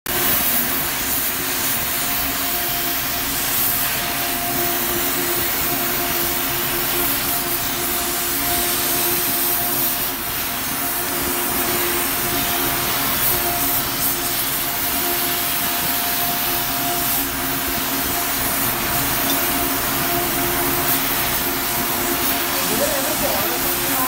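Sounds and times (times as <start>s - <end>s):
faint machinery hum: 0.1s - 24.0s
gas torch flame hissing: 0.1s - 24.0s.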